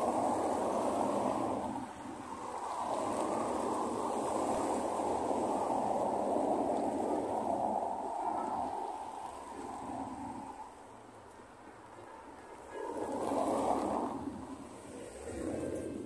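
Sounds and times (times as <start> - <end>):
street traffic rushing: 0.0 - 16.0.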